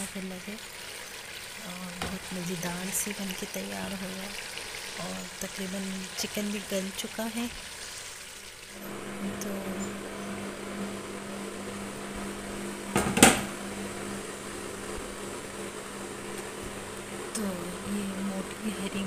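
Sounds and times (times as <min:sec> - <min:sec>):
appliance mechanical hum: 0:00.0 - 0:07.4, 0:08.7 - 0:19.0.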